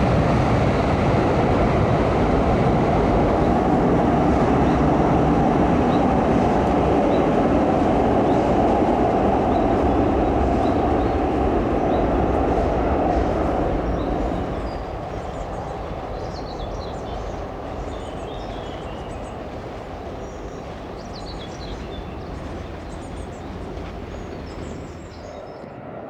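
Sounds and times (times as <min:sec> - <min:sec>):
tram running by: 0:00.0 - 0:26.0
low background rumble: 0:03.4 - 0:25.4
birds chirping: 0:03.4 - 0:25.7.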